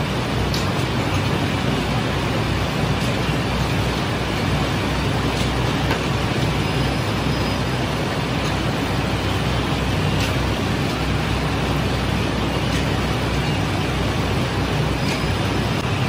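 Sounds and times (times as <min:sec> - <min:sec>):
machinery rushing noise: 0:00.0 - 0:16.0.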